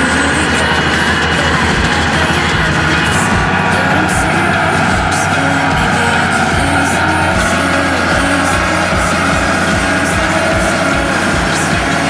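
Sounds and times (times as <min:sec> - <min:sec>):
fast electronic beat music: 0:00.0 - 0:12.0.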